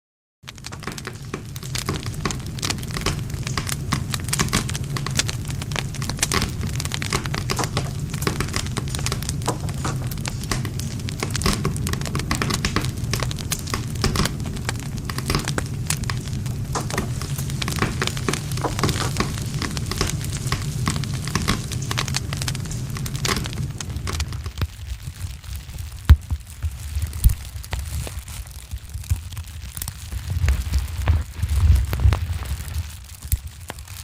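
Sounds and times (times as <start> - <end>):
campfire crackling and popping: 0.4 - 34.0
low rush of flames: 0.5 - 34.0.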